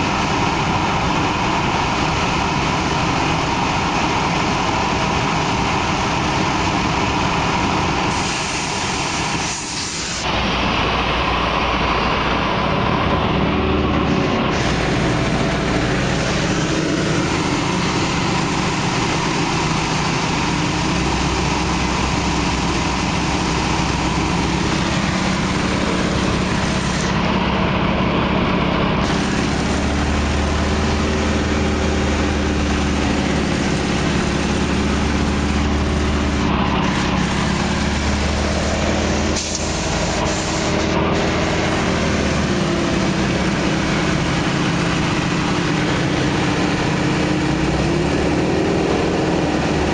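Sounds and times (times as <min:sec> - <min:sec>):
radial aircraft engine and propeller: 0:00.0 - 0:49.9.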